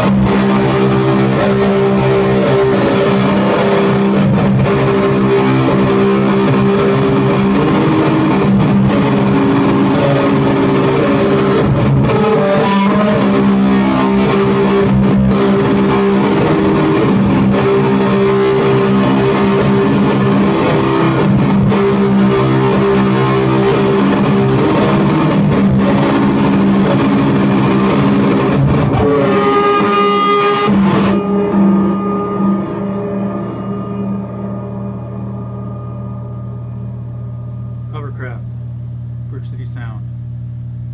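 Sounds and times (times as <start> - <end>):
guitar chord ringing out: 0.0 - 40.9
overdriven electric guitar: 0.0 - 40.9.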